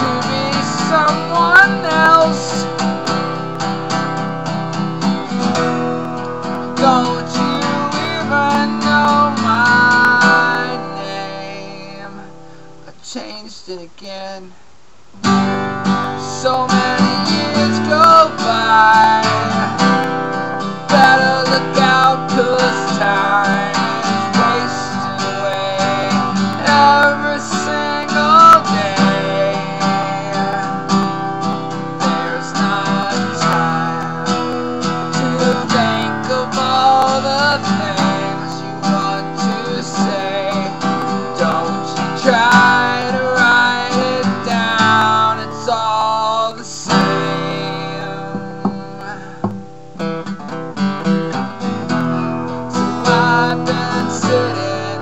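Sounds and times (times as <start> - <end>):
acoustic guitar strumming: 0.0 - 14.4, 15.1 - 55.0
man singing: 0.0 - 14.6, 15.2 - 49.6, 52.6 - 55.0.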